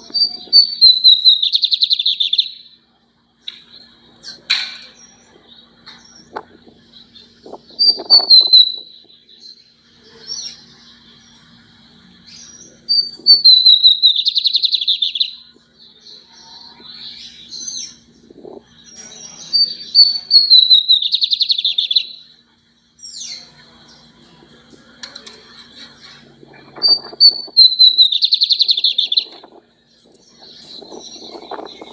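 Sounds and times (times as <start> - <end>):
bird song with buzzy trill: 0.0 - 31.9
faint low hum: 0.0 - 31.9
soft bird chirps: 0.0 - 31.9.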